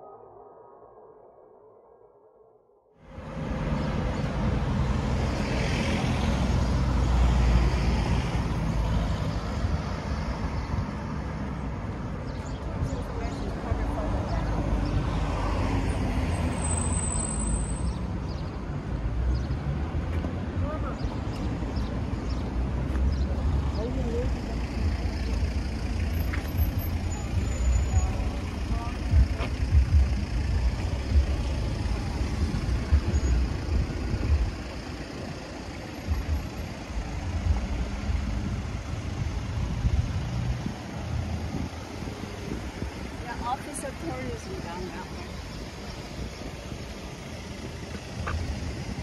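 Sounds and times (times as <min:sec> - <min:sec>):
cars driving past: 0:03.0 - 0:49.0.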